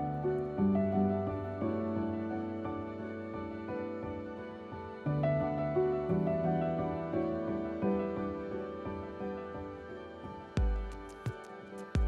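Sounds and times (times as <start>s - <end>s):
soft piano-like background music: 0.0s - 12.0s.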